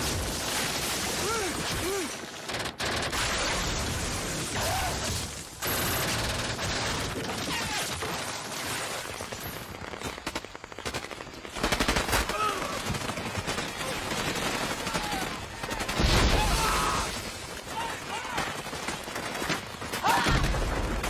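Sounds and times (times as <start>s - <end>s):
rifle and machine-gun fire: 2.4s - 4.6s, 5.5s - 21.0s.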